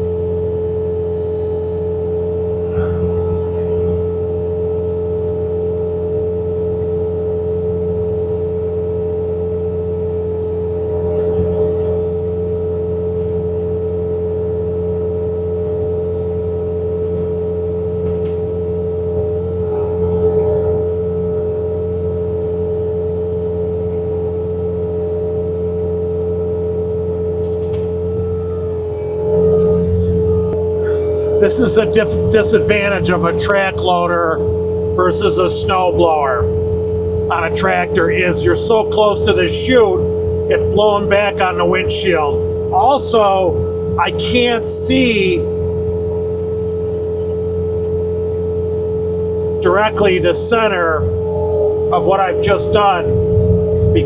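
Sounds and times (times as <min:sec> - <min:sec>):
engine hum: 0:00.0 - 0:54.0
snowblower whine: 0:00.0 - 0:54.0.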